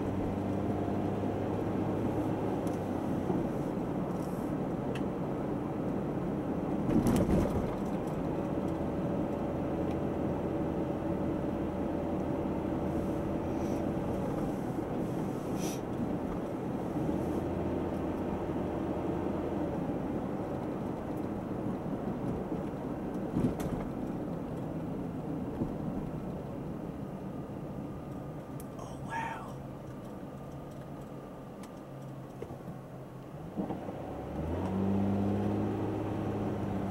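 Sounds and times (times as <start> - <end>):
low engine hum: 0.0 - 36.9
road and tyre noise: 0.0 - 36.9.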